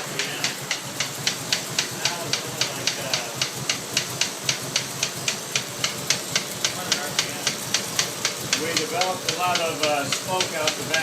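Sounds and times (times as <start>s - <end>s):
car engine idling: 0.0s - 11.0s
sharp engine knock: 0.0s - 11.0s.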